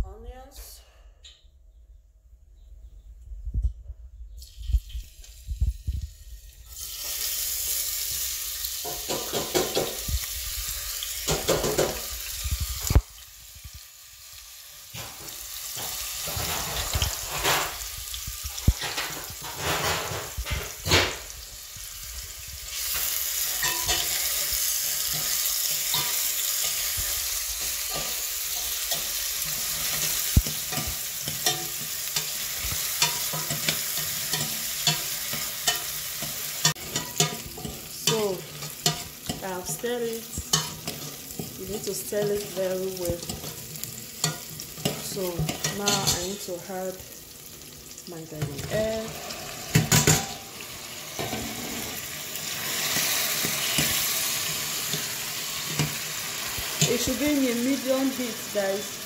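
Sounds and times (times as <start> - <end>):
food sizzling in hot oil: 4.4 - 59.0.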